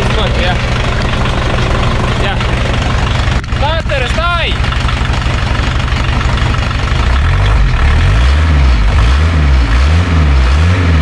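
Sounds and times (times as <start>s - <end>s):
van engine running: 0.0s - 11.0s.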